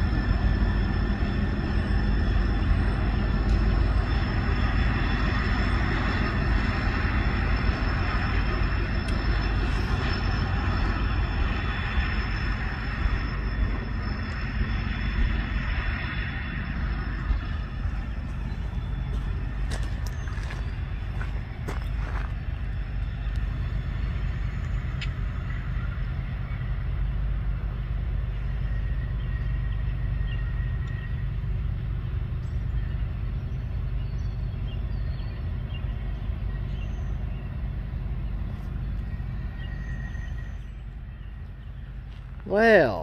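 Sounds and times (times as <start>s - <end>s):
faint high whine: 0.0s - 43.0s
freight train rumbling past: 0.0s - 43.0s.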